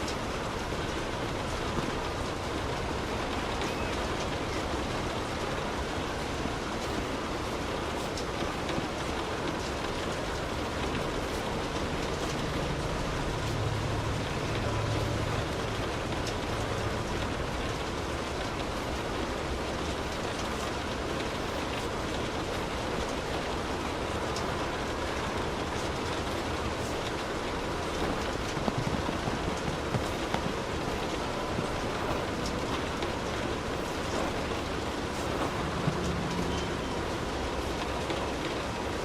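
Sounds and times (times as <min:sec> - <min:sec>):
rain on a car roof: 0:00.0 - 0:39.0.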